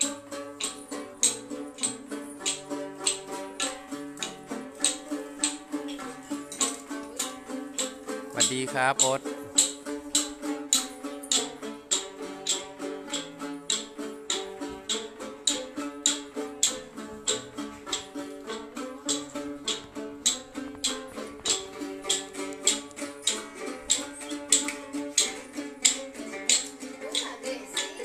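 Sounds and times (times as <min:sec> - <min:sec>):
plucked string folk music: 0:00.0 - 0:28.0.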